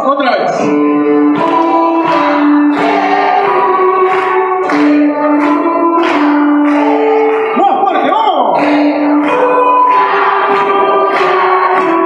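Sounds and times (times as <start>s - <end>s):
violin playing long notes: 0.6s - 7.9s, 8.7s - 12.0s
backing music with a beat: 0.6s - 12.0s.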